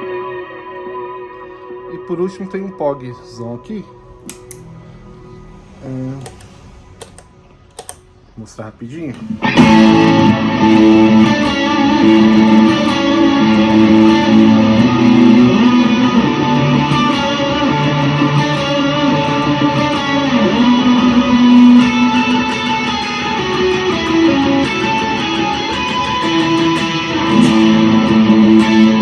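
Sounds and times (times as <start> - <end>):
electric guitar with octave effect: 0.0 - 7.6, 9.1 - 29.0.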